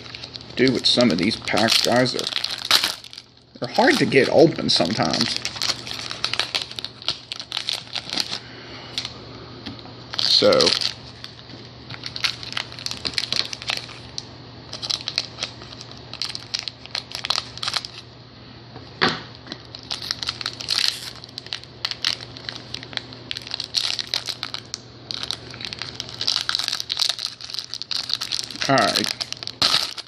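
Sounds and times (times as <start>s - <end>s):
foil wrapper crinkling and tearing: 0.0s - 9.1s, 10.1s - 18.0s, 19.5s - 30.0s.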